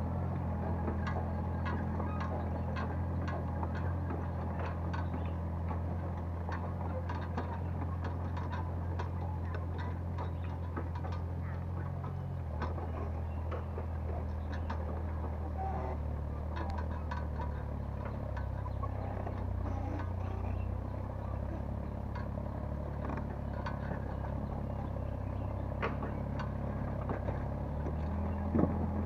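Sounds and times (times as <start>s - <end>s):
excavator diesel engine running: 0.0s - 29.0s
small irregular clicks and knocks: 0.1s - 29.0s.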